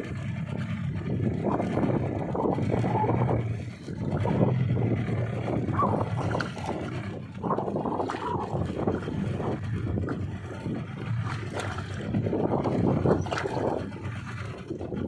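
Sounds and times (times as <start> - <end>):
boat engine humming: 0.0 - 15.0
water rushing along hull: 0.0 - 15.0
wind buffeting microphone: 0.0 - 15.0.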